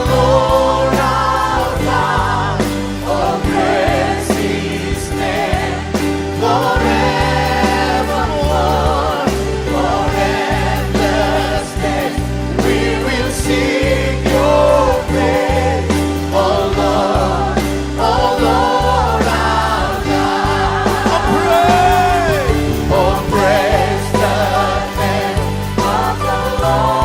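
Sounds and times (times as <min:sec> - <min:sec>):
people singing with vibrato: 0:00.0 - 0:27.0
worship band playing: 0:00.0 - 0:27.0.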